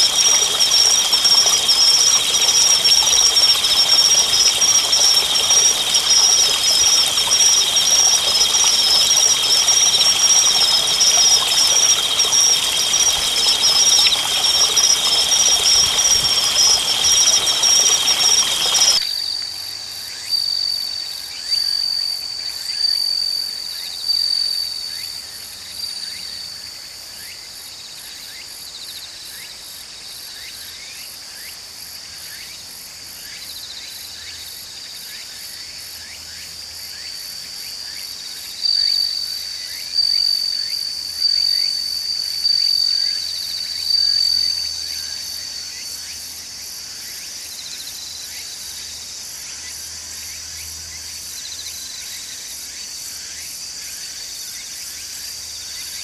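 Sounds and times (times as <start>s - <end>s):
insects chirring: 0.0s - 27.4s, 33.3s - 56.0s
pulsing insect song: 0.0s - 56.0s.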